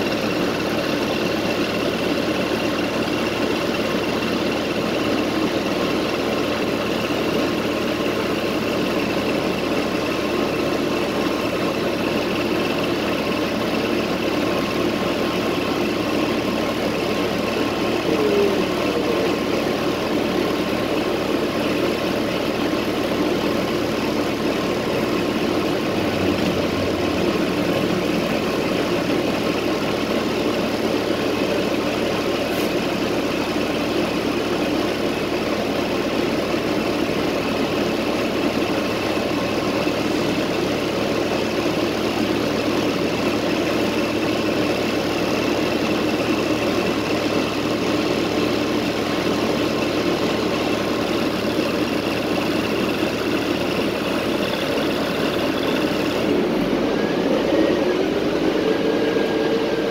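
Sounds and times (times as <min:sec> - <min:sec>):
bus engine drone inside cabin: 0:00.0 - 0:59.9.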